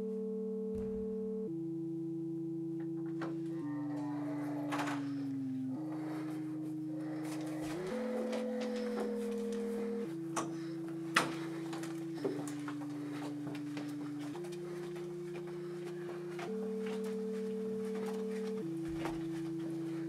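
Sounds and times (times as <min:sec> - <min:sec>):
low held orchestral chords: 0:00.6 - 0:20.0.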